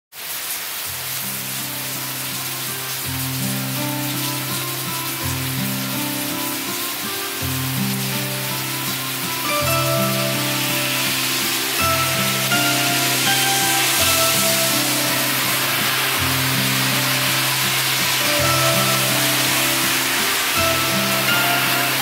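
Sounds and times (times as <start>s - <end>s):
rain falling on pavement: 0.1s - 22.0s.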